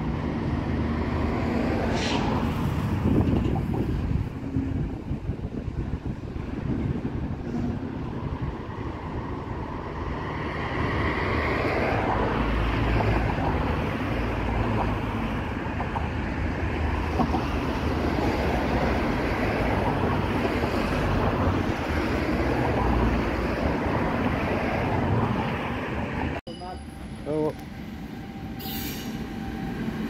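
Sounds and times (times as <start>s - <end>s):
freight train rumble: 0.0s - 30.0s
wind buffeting microphone: 1.8s - 26.4s.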